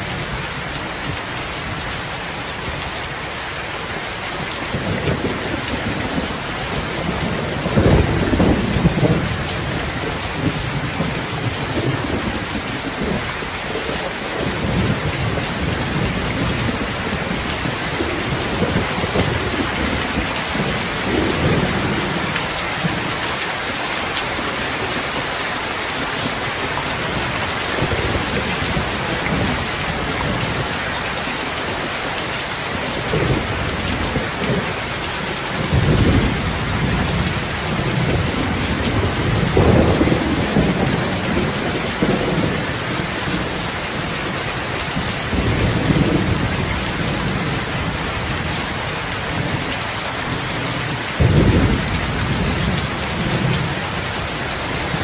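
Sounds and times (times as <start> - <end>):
heavy rain falling: 0.0 - 55.0
low rolling thunder: 4.7 - 23.2, 26.0 - 31.0, 32.7 - 55.0.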